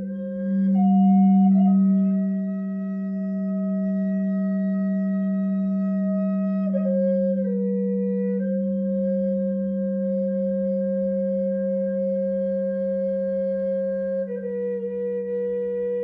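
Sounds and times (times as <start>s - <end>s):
bamboo flute playing: 0.0s - 16.0s.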